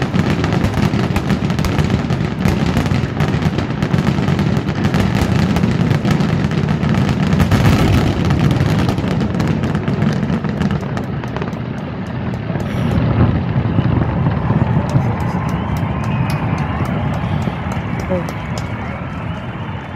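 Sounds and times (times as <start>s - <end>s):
fireworks booming: 0.0s - 19.9s
fireworks crackling pops: 0.0s - 19.9s.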